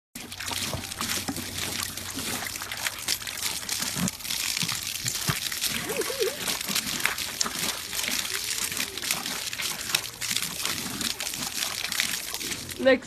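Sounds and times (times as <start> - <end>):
water splashing and sloshing: 0.2 - 13.0.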